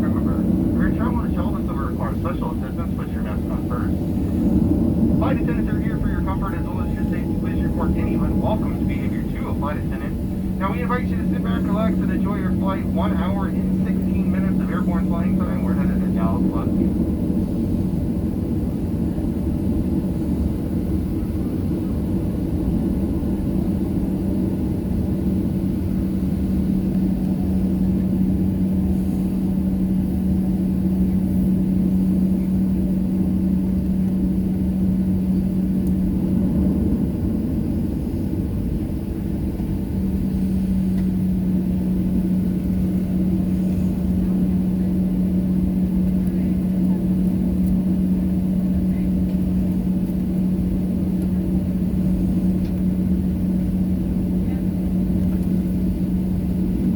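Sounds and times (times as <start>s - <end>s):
aircraft cabin rumble and hum: 0.0s - 56.9s.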